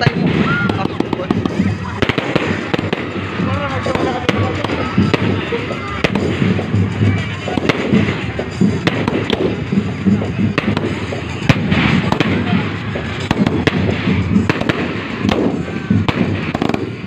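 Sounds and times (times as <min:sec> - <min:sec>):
fireworks crackle and rumble: 0:00.0 - 0:17.0
fireworks shells bursting: 0:00.0 - 0:17.0.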